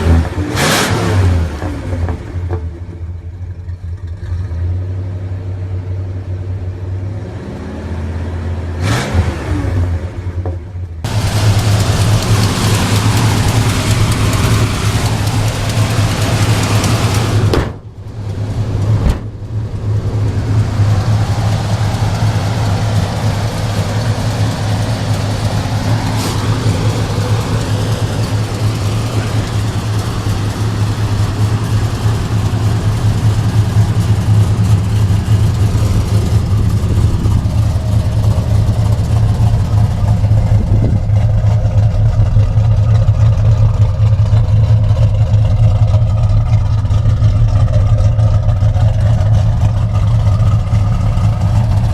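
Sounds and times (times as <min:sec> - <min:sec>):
car engine running loudly: 0:00.0 - 0:05.8, 0:06.6 - 0:51.9.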